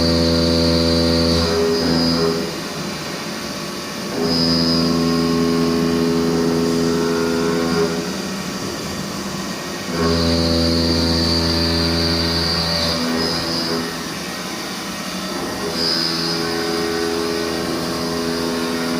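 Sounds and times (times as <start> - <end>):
machine hum and high whine: 0.0 - 18.9.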